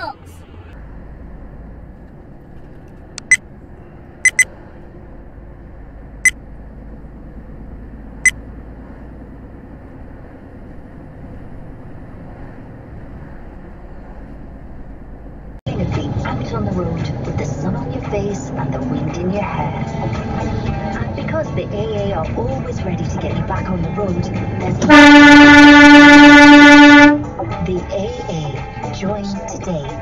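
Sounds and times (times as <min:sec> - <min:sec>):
road and engine noise in cab: 0:00.0 - 0:30.0.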